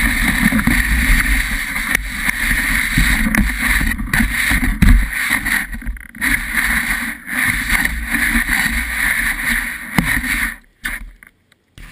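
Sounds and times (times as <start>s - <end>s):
skis scraping over snow: 0.0s - 11.2s.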